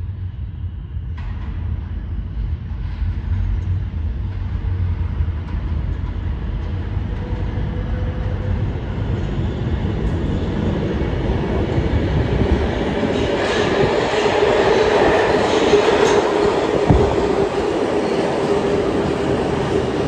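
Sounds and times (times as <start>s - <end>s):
subway train wheels on rails: 0.0s - 20.0s.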